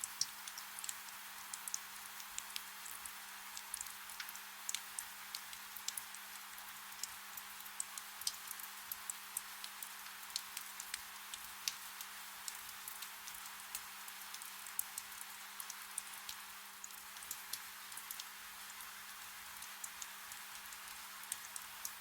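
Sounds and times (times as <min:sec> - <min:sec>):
soft rain hiss: 0:00.0 - 0:22.0
raindrop ticks: 0:00.1 - 0:03.0, 0:03.6 - 0:18.9.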